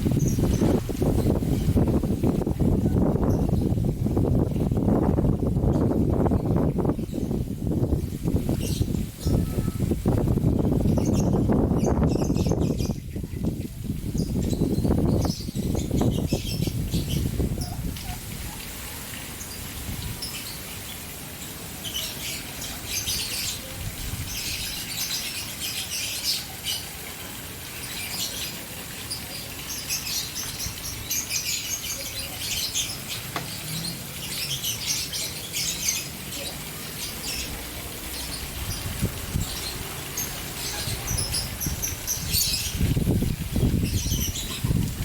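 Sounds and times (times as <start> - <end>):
caged birds chirping: 0.0 - 45.0
fountain water rushing: 0.0 - 45.0.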